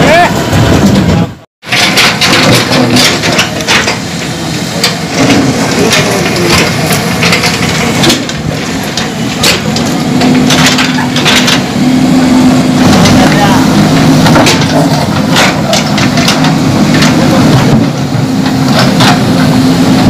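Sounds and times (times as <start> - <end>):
diesel engine running: 0.0 - 20.0
boulders knocking and grinding: 0.4 - 11.8, 12.6 - 19.6.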